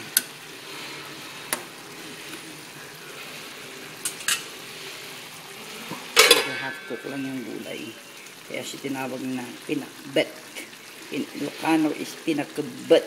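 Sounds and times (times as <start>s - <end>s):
vegetables sizzling in pot: 0.0s - 13.0s.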